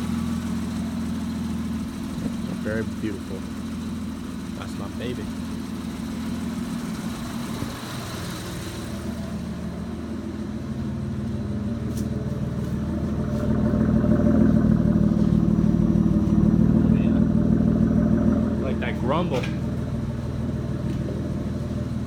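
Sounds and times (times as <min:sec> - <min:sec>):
car engine high idle: 0:00.0 - 0:22.0.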